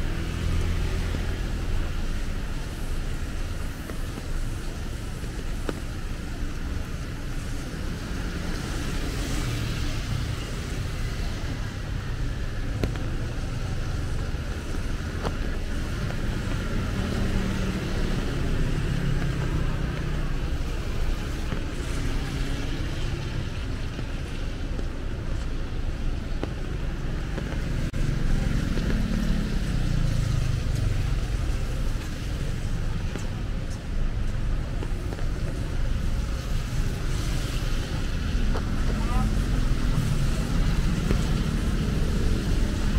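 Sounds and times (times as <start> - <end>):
cars and motorbikes passing: 0.0 - 42.9
tyres hissing on wet road: 0.0 - 42.9.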